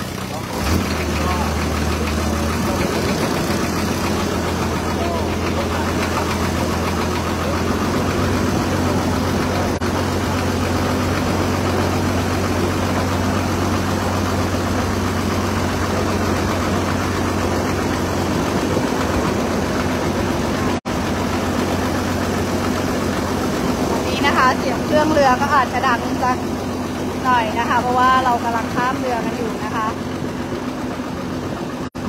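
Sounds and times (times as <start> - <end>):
boat engine low drone: 0.0 - 32.0.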